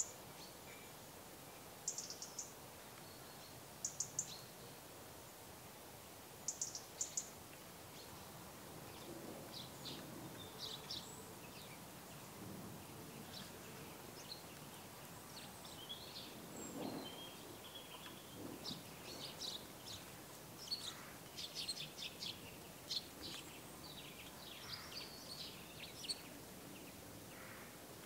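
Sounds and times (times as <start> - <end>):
faint outdoor hiss: 0.0 - 28.0
sparrows chirping: 1.9 - 4.5, 6.5 - 27.7.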